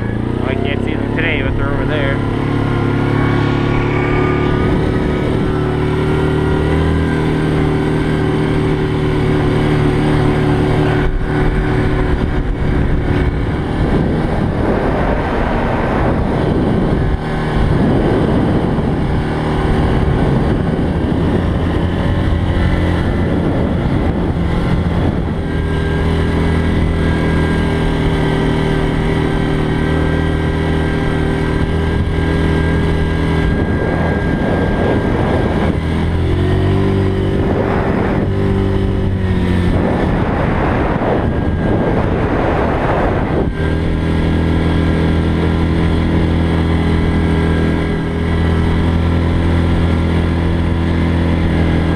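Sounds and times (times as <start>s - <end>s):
quad bike engine running: 0.0s - 51.9s.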